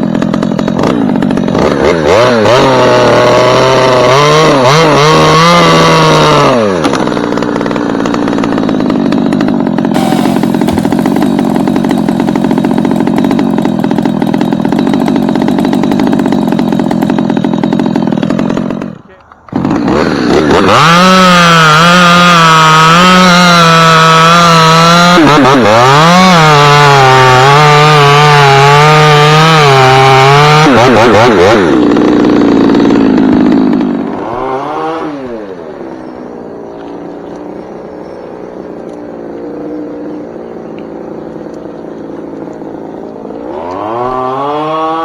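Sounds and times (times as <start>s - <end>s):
chainsaw revving and idling: 0.0s - 45.0s.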